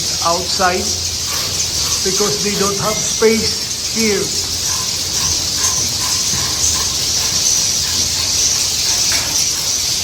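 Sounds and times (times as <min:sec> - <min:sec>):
swiftlets twittering and clicking: 0:00.0 - 0:10.0.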